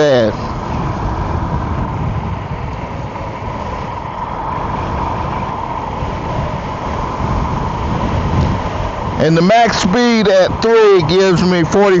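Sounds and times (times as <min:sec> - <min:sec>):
steady high whine: 0:00.0 - 0:12.0
wind buffeting microphone: 0:00.0 - 0:12.0.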